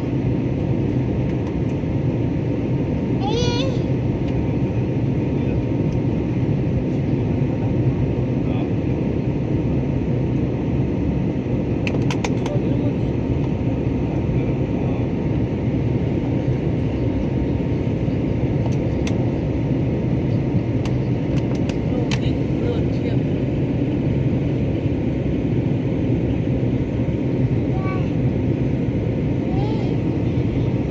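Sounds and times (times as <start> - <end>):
airplane cabin roar: 0.0 - 30.9.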